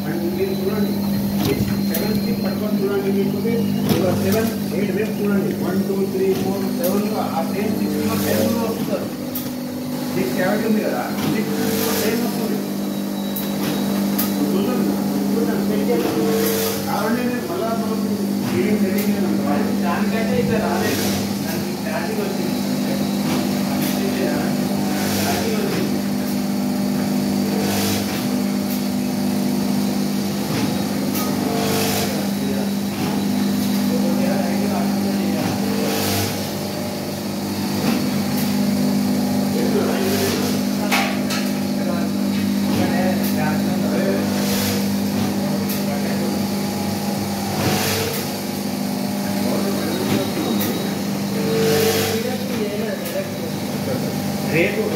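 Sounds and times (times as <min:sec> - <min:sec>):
machine motor hum: 0:00.0 - 0:54.9.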